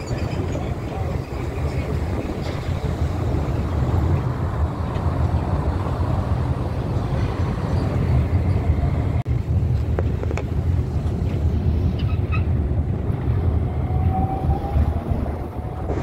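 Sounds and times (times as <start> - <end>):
monorail car rumbling: 0.0 - 16.0.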